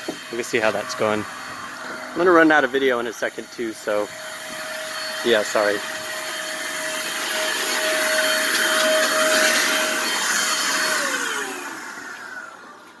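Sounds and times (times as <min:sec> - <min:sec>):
electric blower motor whine: 0:00.0 - 0:13.0.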